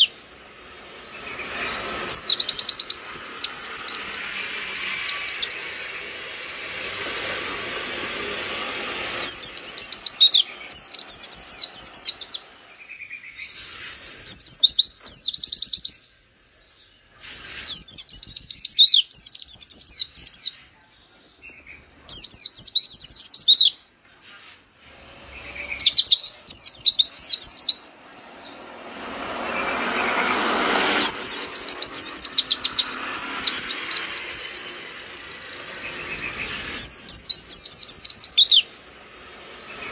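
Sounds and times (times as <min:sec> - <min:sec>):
rushing background noise: 0:00.0 - 0:39.9.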